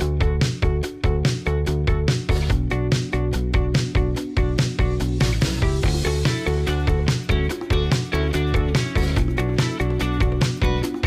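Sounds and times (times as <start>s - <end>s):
upbeat music with plucked guitar: 0.0s - 11.0s.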